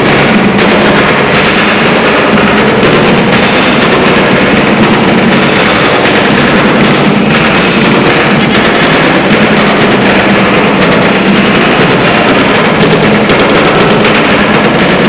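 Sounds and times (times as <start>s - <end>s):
loud distorted show music: 0.0s - 15.0s
rapid driving drumbeats: 0.0s - 15.0s.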